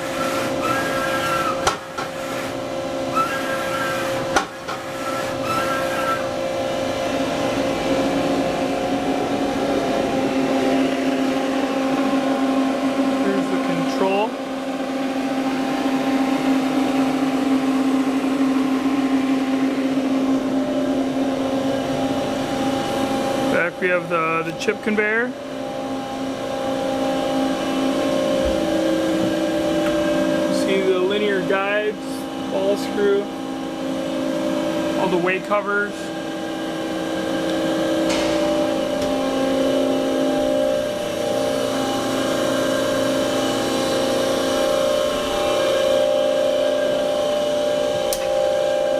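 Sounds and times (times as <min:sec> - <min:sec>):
machining center humming: 0:00.0 - 0:48.9.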